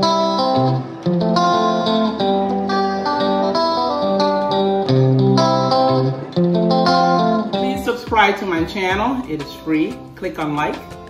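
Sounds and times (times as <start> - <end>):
guitar chords: 0.0 - 11.0.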